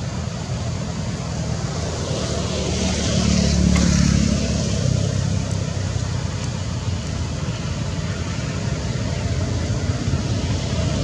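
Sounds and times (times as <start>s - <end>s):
engine rumble with hiss: 0.0s - 11.0s.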